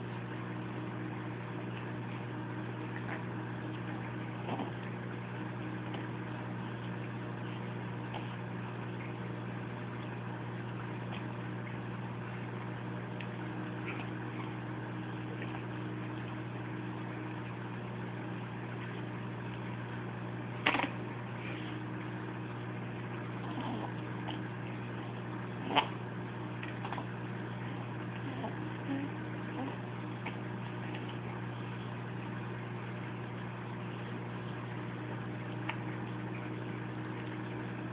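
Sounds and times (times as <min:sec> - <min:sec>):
ceiling fan motor humming: 0:00.0 - 0:37.9.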